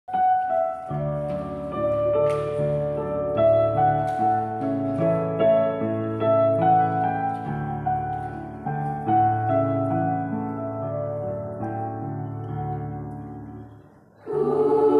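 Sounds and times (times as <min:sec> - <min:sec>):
slow keyboard chords and melody: 0:00.1 - 0:14.9.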